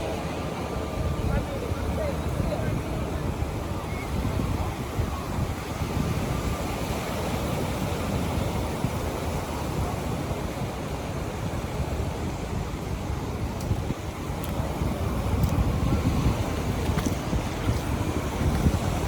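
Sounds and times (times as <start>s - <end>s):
ocean surf on beach: 0.0s - 19.0s
wind rumbling on microphone: 0.0s - 19.0s.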